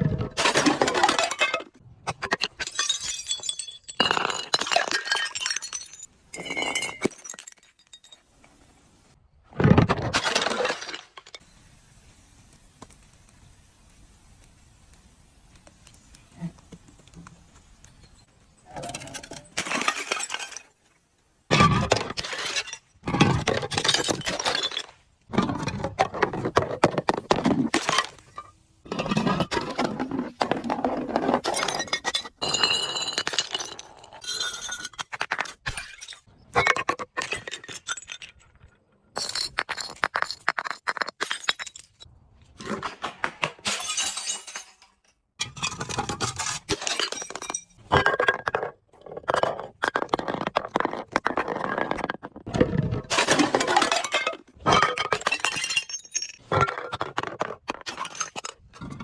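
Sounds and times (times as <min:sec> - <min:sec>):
glass bottles crushing and breaking: 0:00.1 - 0:08.4, 0:09.6 - 0:11.4, 0:18.0 - 0:20.8, 0:21.5 - 0:42.9, 0:43.5 - 0:59.0.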